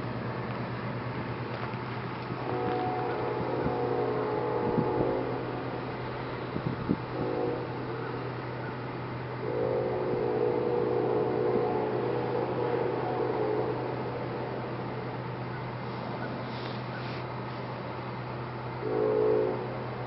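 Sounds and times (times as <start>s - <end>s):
passing train hum: 0.0s - 20.0s
locomotive air horn blasts: 2.3s - 17.7s, 18.7s - 20.0s.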